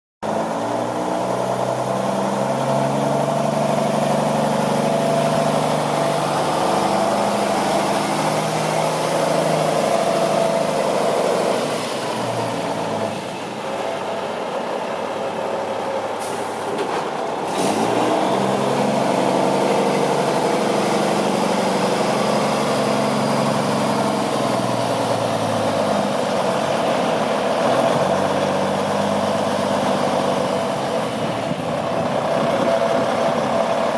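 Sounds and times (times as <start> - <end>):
diesel truck engine running: 0.2 - 33.9.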